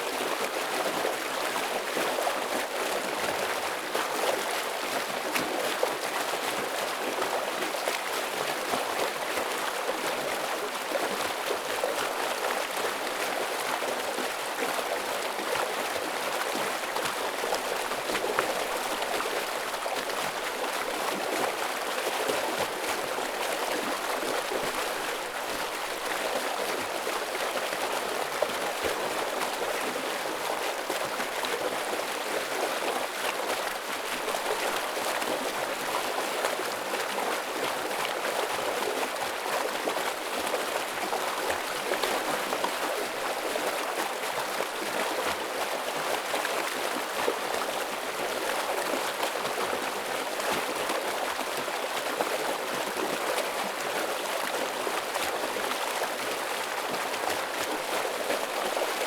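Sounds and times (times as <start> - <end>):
stream flowing over rocks: 0.1 - 59.0.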